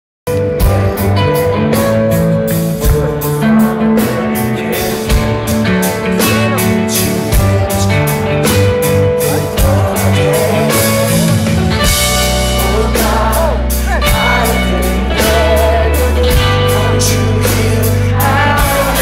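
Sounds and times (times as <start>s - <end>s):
live rock band playing: 0.3s - 19.0s.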